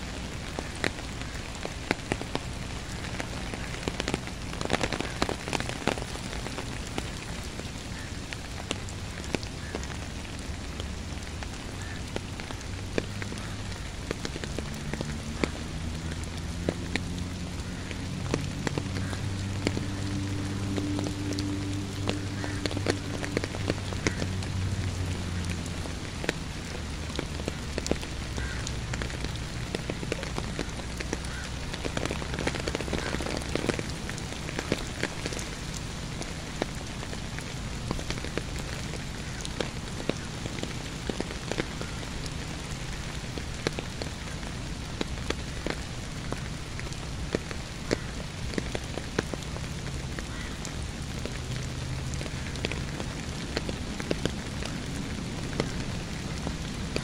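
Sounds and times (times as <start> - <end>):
raindrops tapping close by: 0.0 - 57.0
steady rain falling: 0.0 - 57.0.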